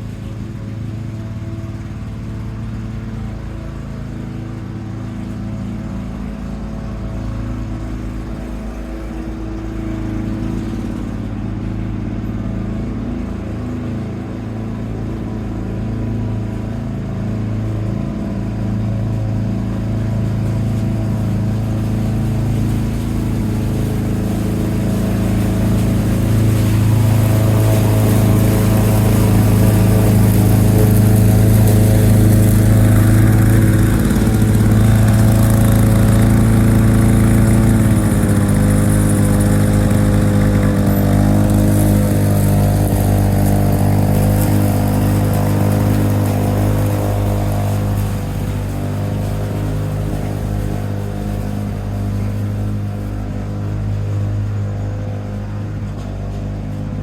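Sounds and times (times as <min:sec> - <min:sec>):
push mower engine running: 0:00.0 - 0:57.0.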